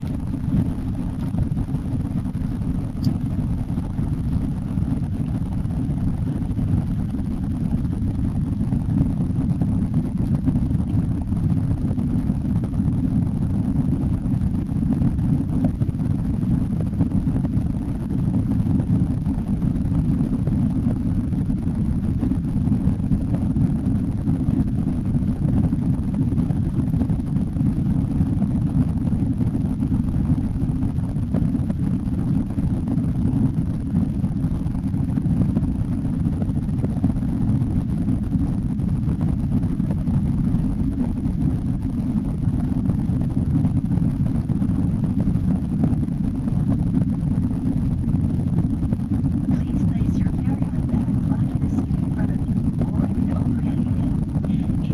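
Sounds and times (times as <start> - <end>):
jet engines rumbling in cabin: 0.0 - 54.9.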